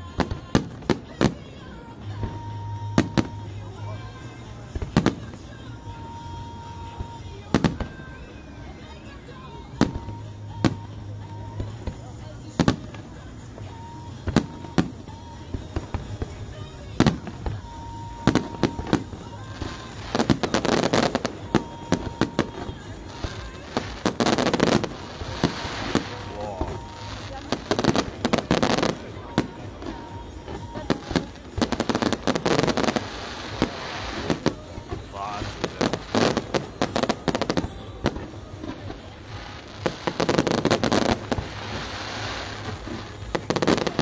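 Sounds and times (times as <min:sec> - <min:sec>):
rapid fireworks crackling: 0:00.0 - 0:44.0.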